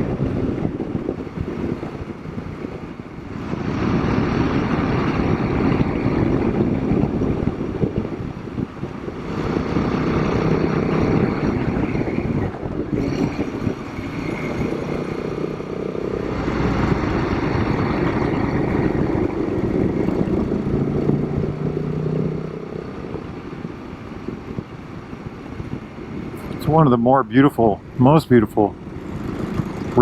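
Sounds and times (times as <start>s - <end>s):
motorcycle engine running: 0.0s - 26.6s
wind and road noise: 0.0s - 30.0s.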